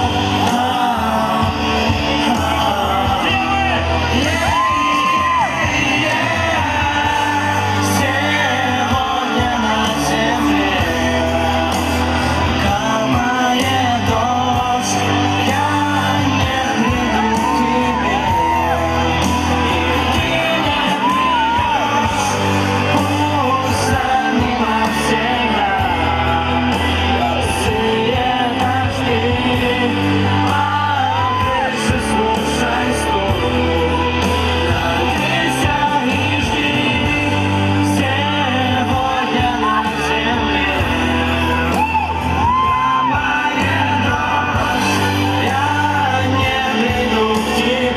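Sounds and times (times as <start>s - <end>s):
crowd shouting: 0.0s - 47.9s
live pop band playing: 0.0s - 47.9s
person singing: 0.0s - 47.9s.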